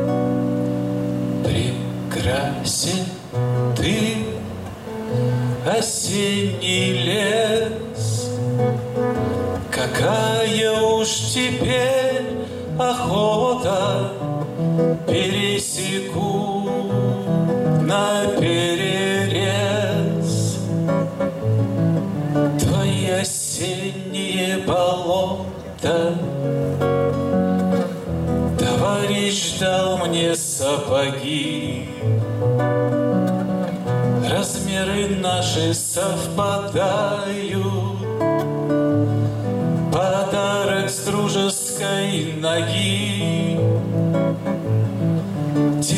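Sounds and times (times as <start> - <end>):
acoustic guitar: 0.0 - 45.9
man singing: 1.4 - 8.8, 9.6 - 21.0, 22.2 - 27.2, 27.9 - 32.6, 34.1 - 44.5, 45.6 - 45.9.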